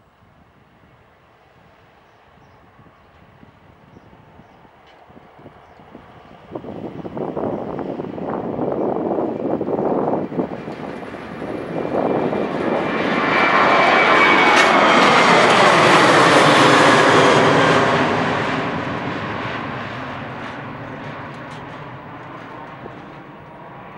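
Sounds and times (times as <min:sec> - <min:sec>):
jet airliner taking off overhead: 0:00.2 - 0:23.9.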